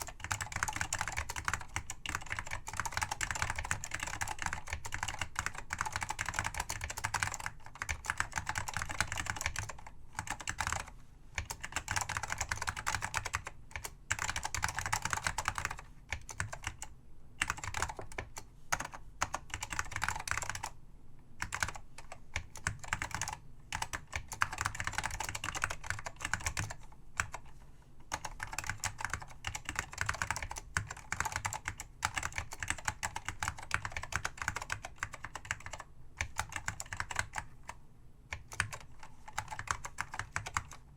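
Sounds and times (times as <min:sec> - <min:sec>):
mechanical keyboard typing: 0:00.0 - 0:20.8, 0:21.4 - 0:27.5, 0:28.1 - 0:40.8.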